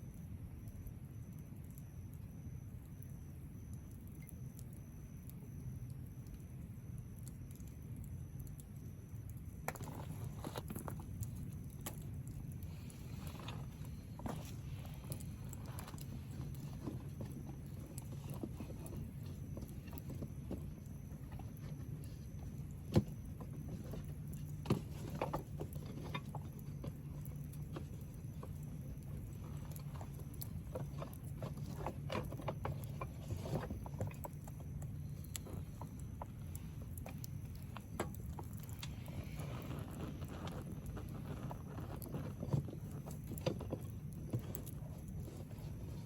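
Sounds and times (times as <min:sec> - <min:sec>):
low steady hum: 0:00.0 - 0:46.0
wood fire crackling: 0:00.0 - 0:46.0.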